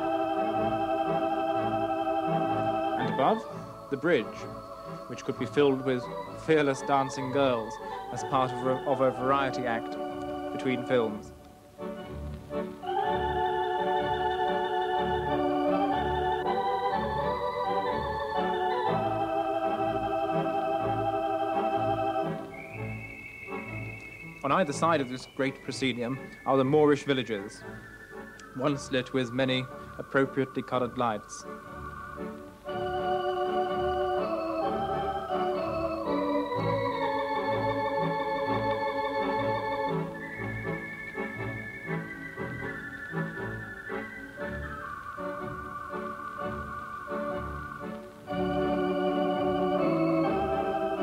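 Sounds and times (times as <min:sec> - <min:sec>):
organ chords: 0:00.0 - 0:51.0.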